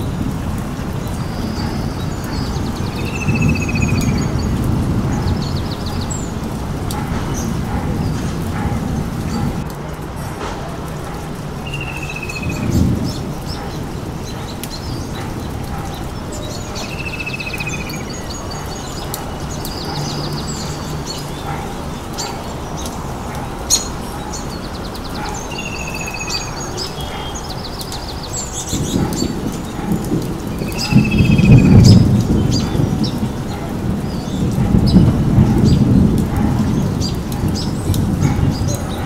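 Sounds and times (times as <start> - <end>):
birds chirping and trilling: 0.0 - 9.7, 11.0 - 39.0.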